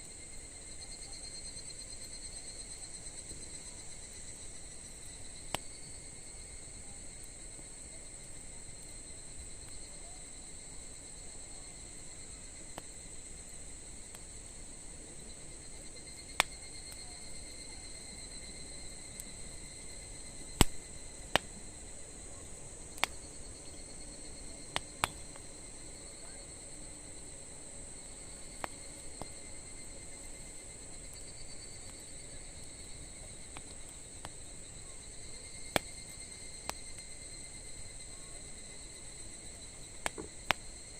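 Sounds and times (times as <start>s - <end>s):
insects trilling: 0.0s - 40.9s
campfire popping and cracking: 2.0s - 40.9s.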